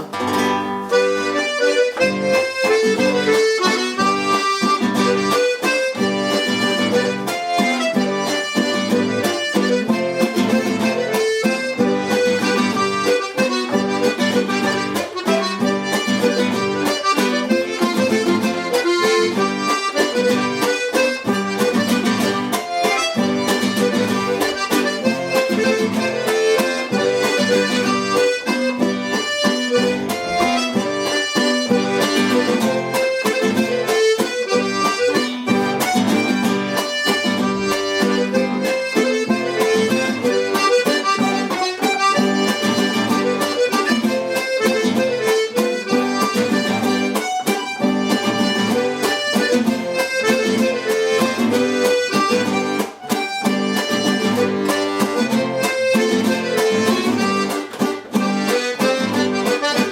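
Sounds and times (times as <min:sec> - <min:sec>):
accordion playing a waltz: 0:00.0 - 0:59.9.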